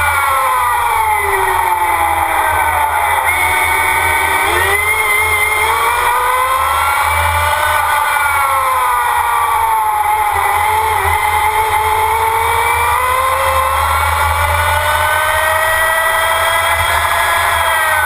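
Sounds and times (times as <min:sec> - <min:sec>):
race car engine: 0:00.0 - 0:18.0.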